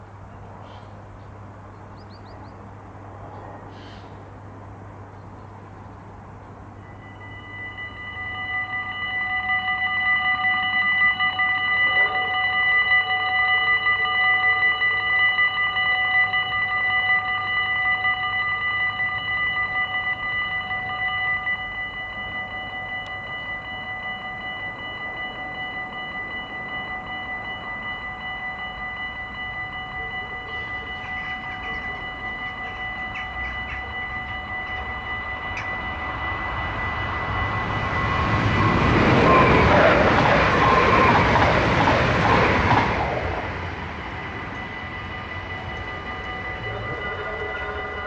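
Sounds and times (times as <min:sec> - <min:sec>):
level crossing warning bell: 0:00.0 - 0:48.0.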